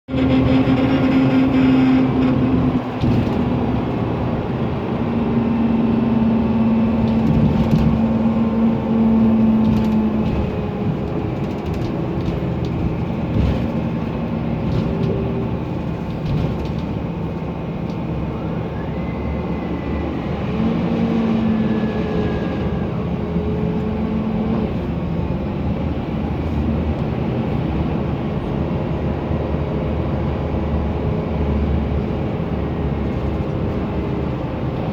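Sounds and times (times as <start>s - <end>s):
bus engine drone: 0.0s - 34.9s.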